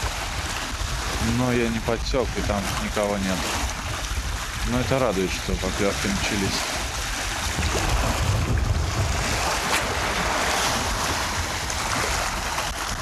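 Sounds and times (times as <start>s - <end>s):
choppy water waves: 0.0s - 13.0s
wind buffeting microphone: 0.0s - 13.0s.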